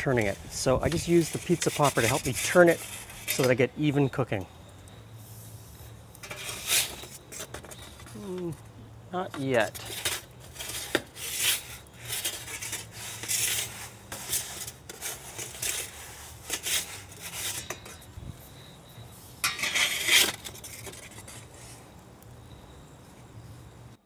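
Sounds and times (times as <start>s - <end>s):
metal pizza peels scraping on oven floor: 0.0s - 4.4s, 5.2s - 8.6s, 9.5s - 22.0s.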